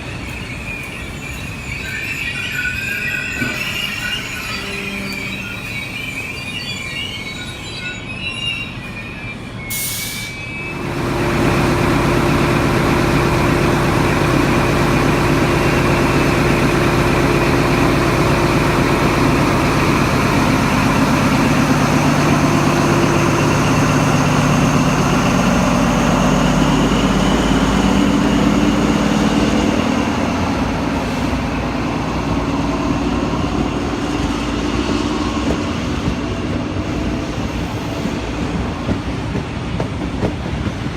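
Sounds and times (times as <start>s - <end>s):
train wheel squeal: 0.0s - 10.9s, 12.8s - 40.9s.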